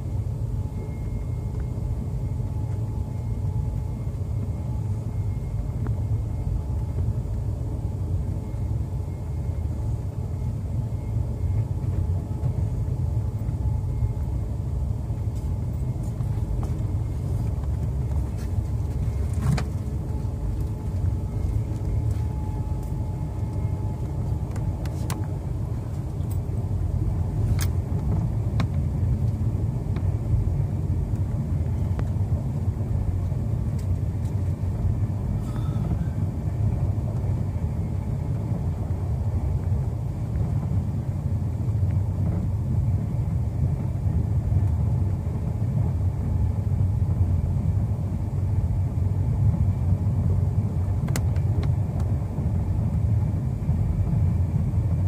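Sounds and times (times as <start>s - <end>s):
train rumbling inside coach: 0.0s - 55.0s.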